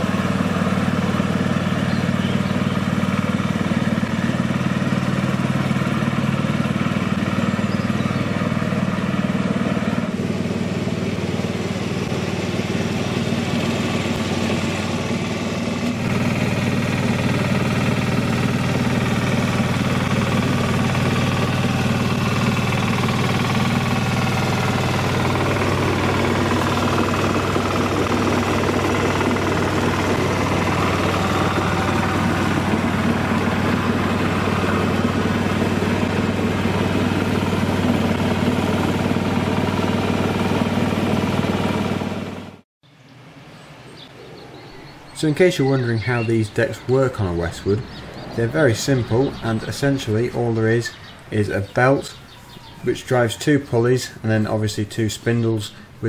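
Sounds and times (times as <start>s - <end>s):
ride-on mower cutting grass: 0.0s - 42.6s, 43.9s - 56.0s.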